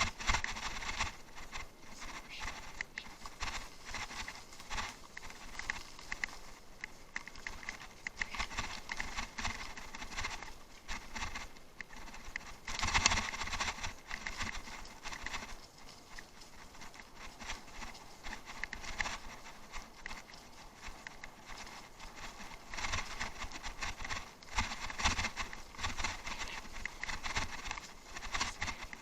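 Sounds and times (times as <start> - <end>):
bicycle rattling on rough track: 0.0 - 29.0.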